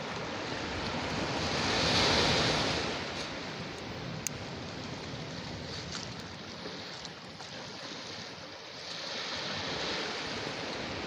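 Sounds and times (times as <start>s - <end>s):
sea surf washing on shore: 0.0s - 11.0s.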